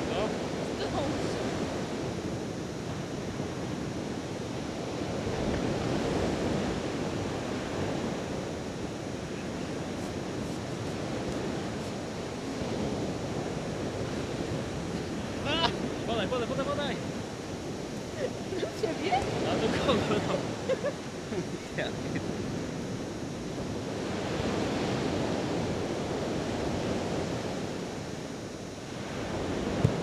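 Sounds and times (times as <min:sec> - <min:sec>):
surf rushing on a beach: 0:00.0 - 0:30.0
wind on the microphone: 0:00.0 - 0:30.0.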